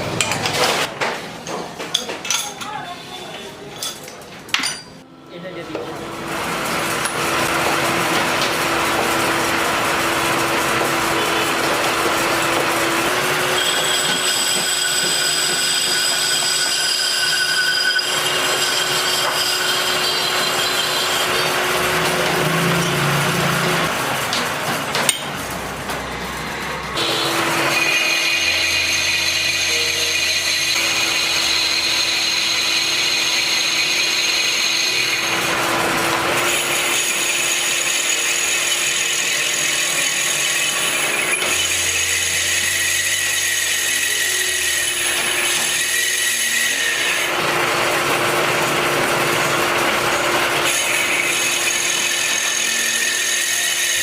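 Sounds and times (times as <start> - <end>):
electric power tool whining: 6.2 - 54.0.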